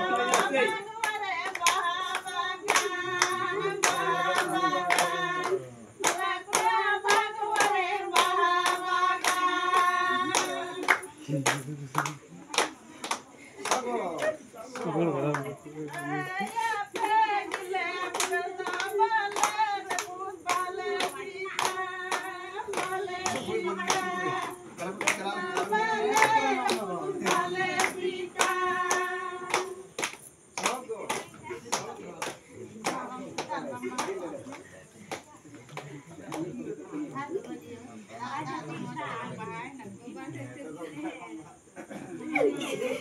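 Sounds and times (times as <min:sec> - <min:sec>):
group singing folk song: 0:00.0 - 0:34.4
sharp handclaps: 0:00.0 - 0:36.6.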